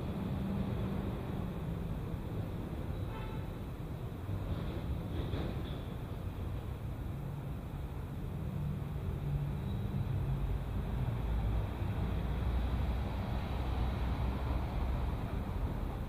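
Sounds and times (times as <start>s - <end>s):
city traffic hum: 0.0s - 16.0s.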